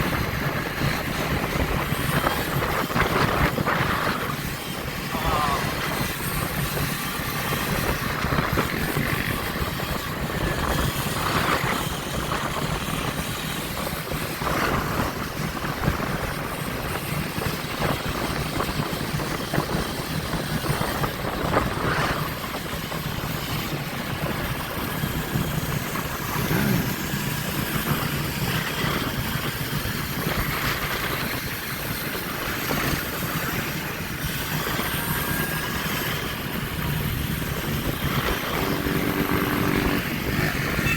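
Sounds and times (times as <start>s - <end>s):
motorbike engines running: 0.0s - 40.9s
steady rushing noise: 0.0s - 40.9s.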